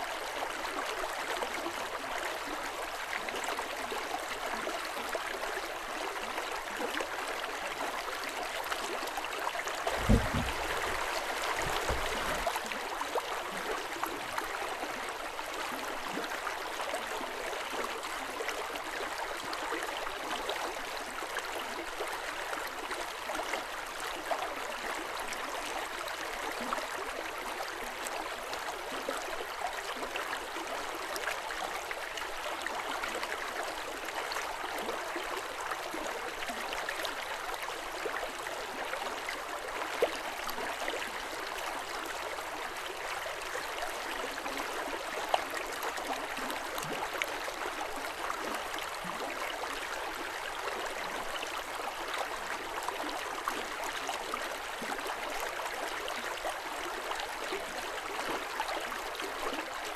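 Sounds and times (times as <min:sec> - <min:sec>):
river water flowing over rocks: 0:00.1 - 0:59.9.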